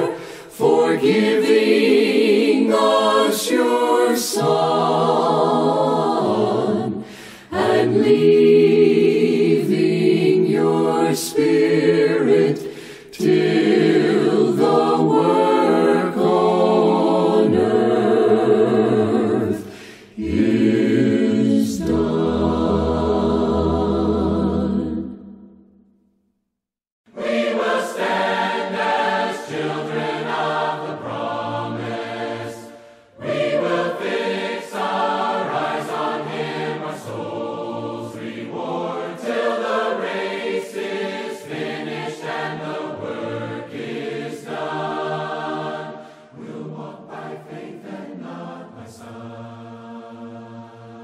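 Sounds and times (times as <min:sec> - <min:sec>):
choir singing a hymn a cappella: 0:00.0 - 0:25.6, 0:27.1 - 0:51.0.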